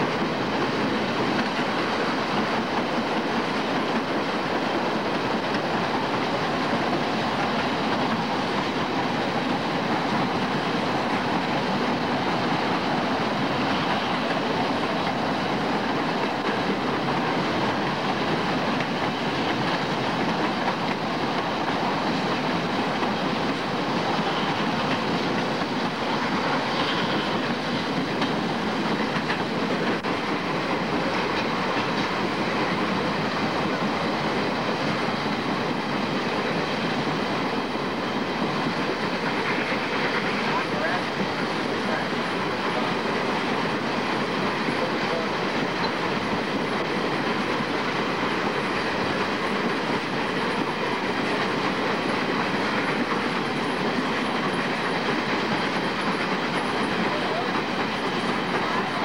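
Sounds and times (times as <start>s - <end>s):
steam train moving: 0.0s - 59.0s.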